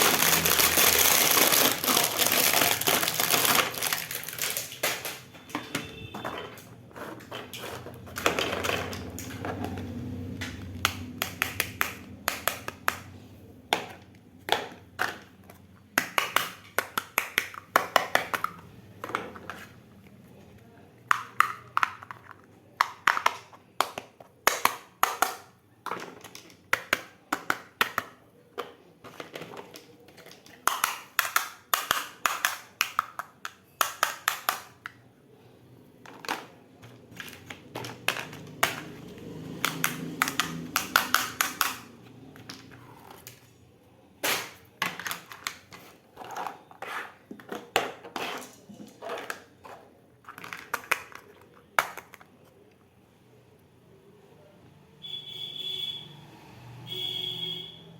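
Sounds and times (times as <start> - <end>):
toy kitchen pieces clicking and tapping: 0.0 - 35.1, 36.0 - 43.6, 44.2 - 52.9.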